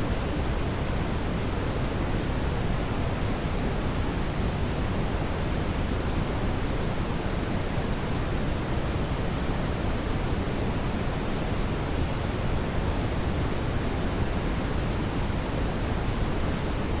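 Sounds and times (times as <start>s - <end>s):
brown noise hiss: 0.0s - 17.0s.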